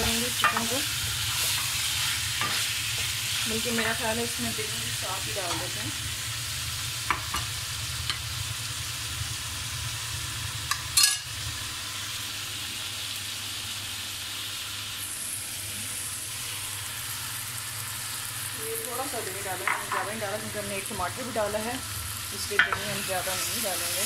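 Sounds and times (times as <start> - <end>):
chicken frying in oil: 0.0 - 24.0.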